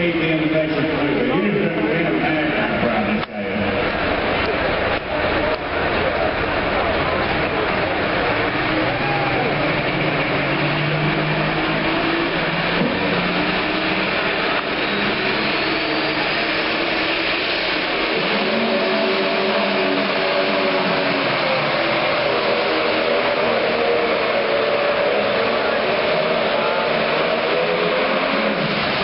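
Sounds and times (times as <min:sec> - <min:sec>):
diesel engine revving hard: 0:00.0 - 0:29.0.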